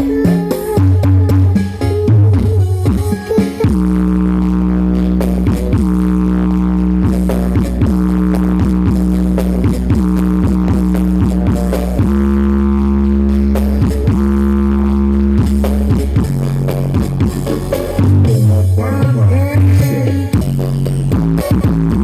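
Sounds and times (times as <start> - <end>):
loud music over sound system: 0.0 - 22.0.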